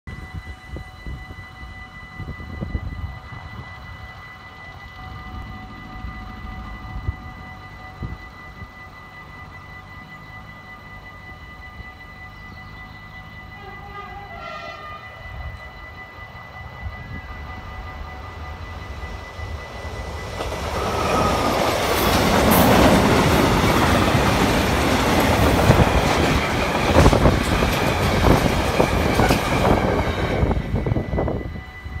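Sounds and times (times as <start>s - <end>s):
diesel locomotive rumble: 0.3s - 32.0s.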